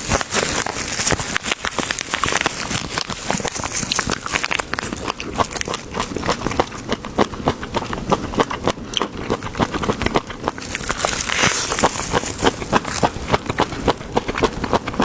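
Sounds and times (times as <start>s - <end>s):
chewing crisp food: 0.0s - 15.0s.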